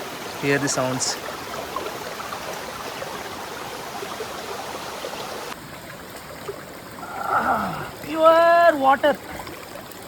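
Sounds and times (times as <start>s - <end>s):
stream running over stones: 0.0s - 10.0s.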